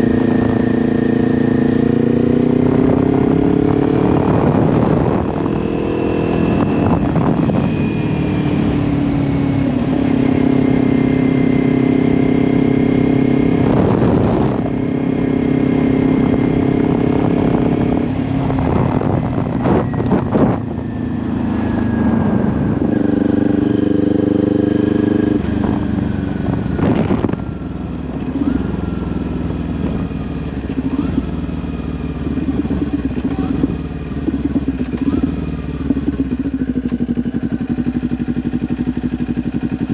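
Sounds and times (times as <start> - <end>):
motorcycle engine with gear changes: 0.0 - 39.9.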